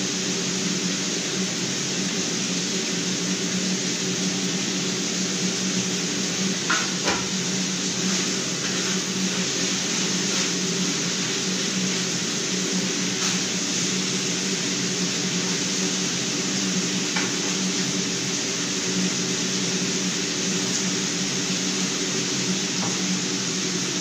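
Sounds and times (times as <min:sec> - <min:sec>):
fan whooshing: 0:00.0 - 0:24.0.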